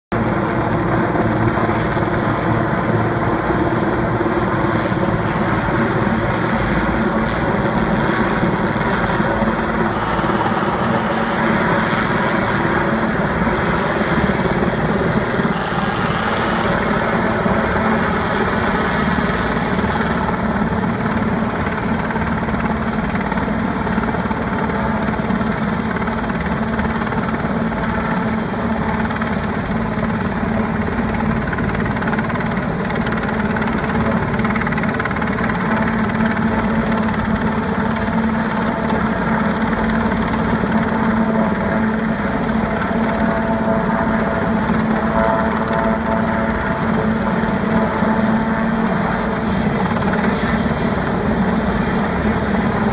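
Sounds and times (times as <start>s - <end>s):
helicopter flying over: 0.1s - 52.9s.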